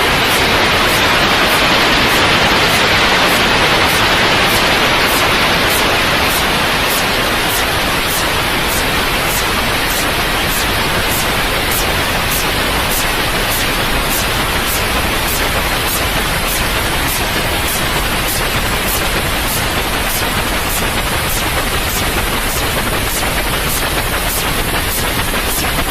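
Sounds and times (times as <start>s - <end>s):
white noise hiss: 0.0s - 25.9s.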